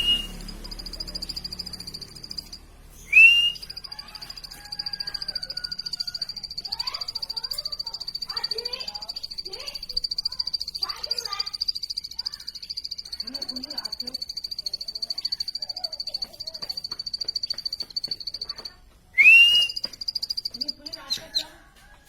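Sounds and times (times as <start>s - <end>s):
high pulsing trill: 0.0s - 18.4s
bird chirping: 0.0s - 21.5s.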